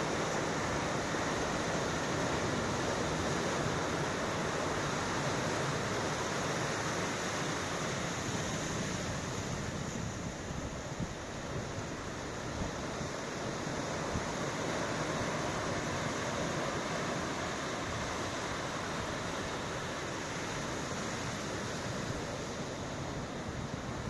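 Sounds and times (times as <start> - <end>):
ocean surf washing in: 0.0 - 24.0
wind: 0.0 - 24.0.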